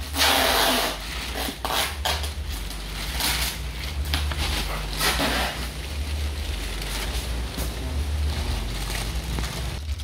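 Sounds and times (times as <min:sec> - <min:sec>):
plastic bag crinkling: 0:00.6 - 0:10.0
steady low hum: 0:01.0 - 0:10.0.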